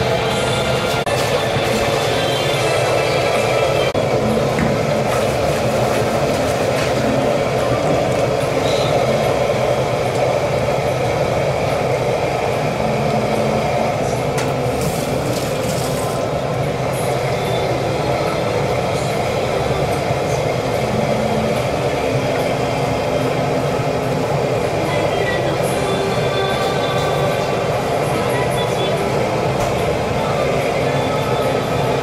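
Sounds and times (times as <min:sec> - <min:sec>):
kitchen equipment roaring: 0:00.0 - 0:32.0.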